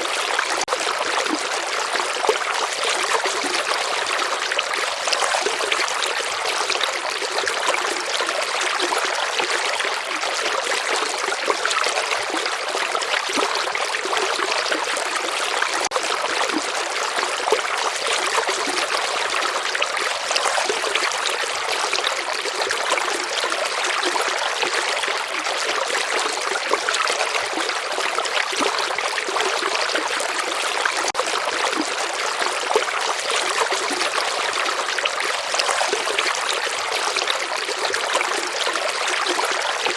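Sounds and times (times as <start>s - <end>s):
river water trickling: 0.0s - 39.9s.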